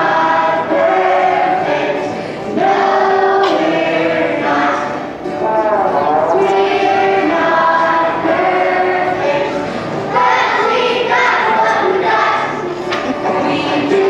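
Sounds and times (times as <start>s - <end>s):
children's choir singing: 0.0s - 14.0s.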